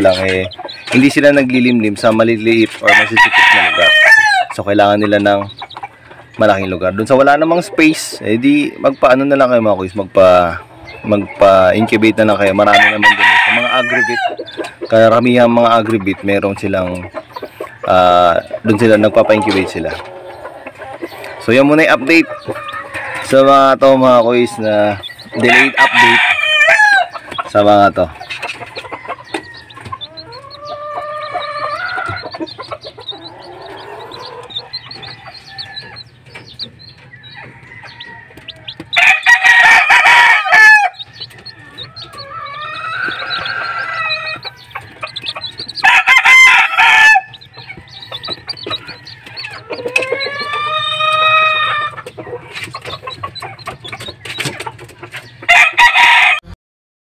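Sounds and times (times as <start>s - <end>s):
chicks peeping: 0.0s - 56.4s
roosters crowing: 0.0s - 56.6s.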